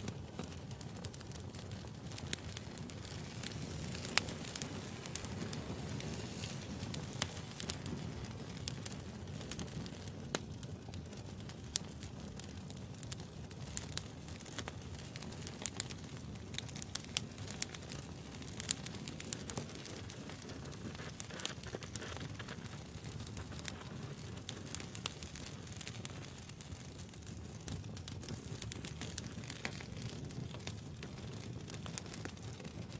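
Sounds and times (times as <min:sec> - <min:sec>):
burning wood crackling: 0:00.0 - 0:32.9
fire low rumble: 0:00.0 - 0:32.9.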